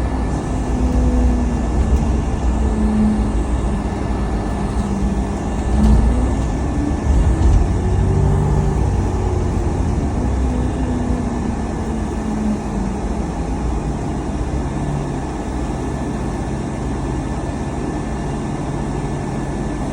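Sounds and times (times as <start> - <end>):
car engine: 0.0 - 19.9
road rumble: 0.0 - 19.9.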